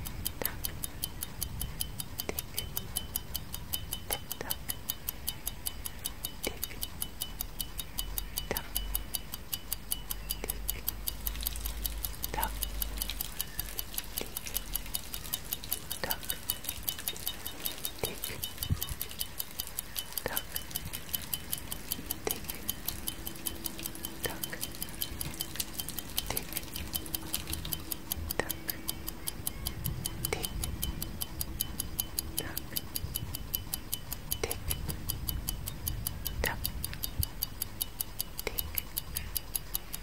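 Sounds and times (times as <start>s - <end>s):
clock ticking: 0.0s - 40.0s.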